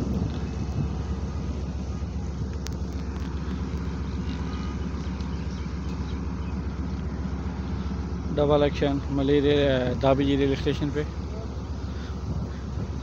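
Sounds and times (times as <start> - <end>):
locomotive engine drone: 0.0 - 13.0.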